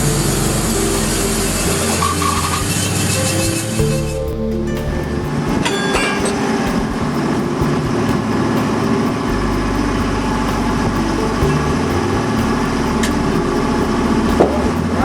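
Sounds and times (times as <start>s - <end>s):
engine running with even pulse: 0.0s - 15.0s.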